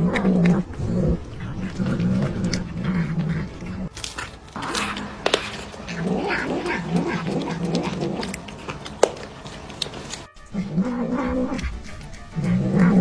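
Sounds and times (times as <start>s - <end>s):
cat growling: 0.0s - 4.0s, 4.6s - 13.0s.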